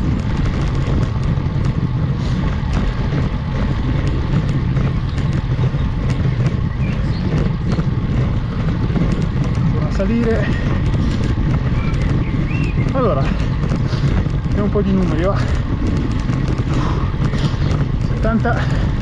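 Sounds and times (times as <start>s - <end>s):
rumble and wind noise: 0.0s - 19.0s.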